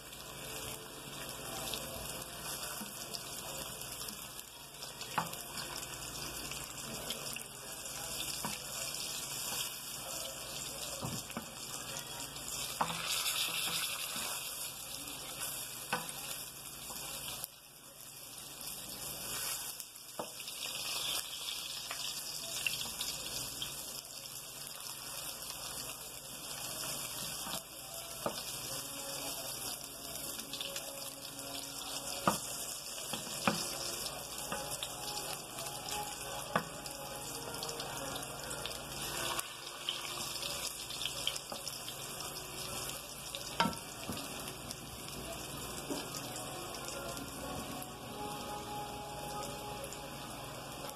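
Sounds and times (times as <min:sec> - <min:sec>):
plantain sizzling in hot oil: 0:00.0 - 0:47.9.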